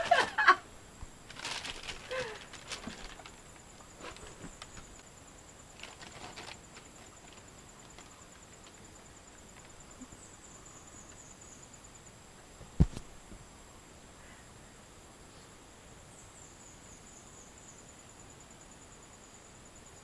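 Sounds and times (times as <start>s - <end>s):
insect trill: 0.0s - 20.0s.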